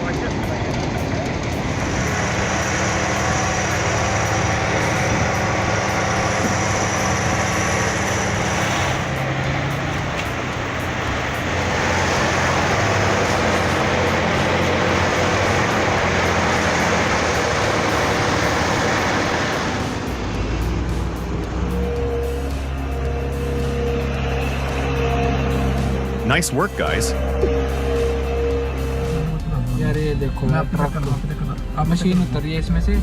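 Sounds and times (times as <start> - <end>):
diesel tractor engines under load: 0.0 - 33.0.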